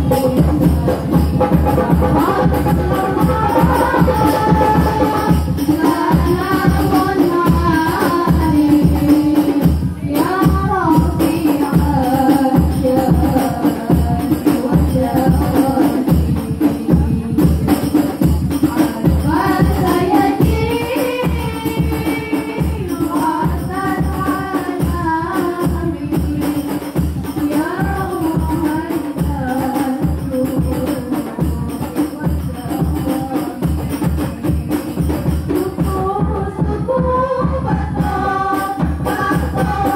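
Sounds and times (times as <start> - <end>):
frame drums beating: 0.0 - 39.9
women singing through a microphone: 0.0 - 39.9.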